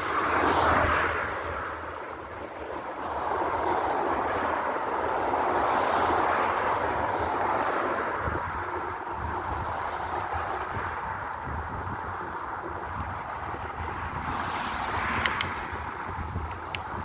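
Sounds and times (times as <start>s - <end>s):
road traffic noise: 0.0s - 17.0s
wind buffeting microphone: 0.0s - 17.0s.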